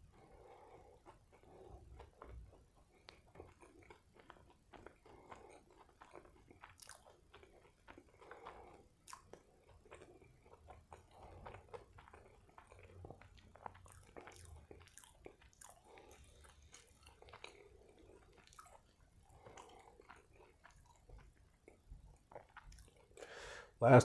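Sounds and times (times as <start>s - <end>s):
chewing burger: 0.0s - 23.8s.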